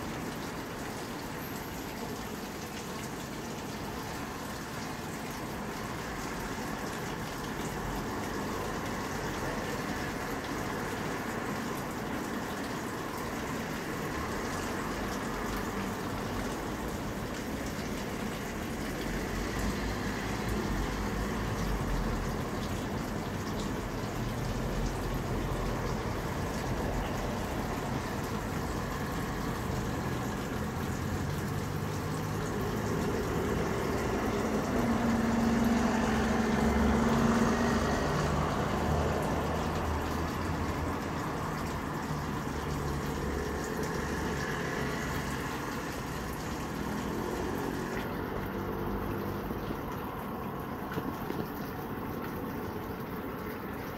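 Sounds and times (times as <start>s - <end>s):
road traffic: 0.0s - 53.9s
running tap water: 0.0s - 53.9s.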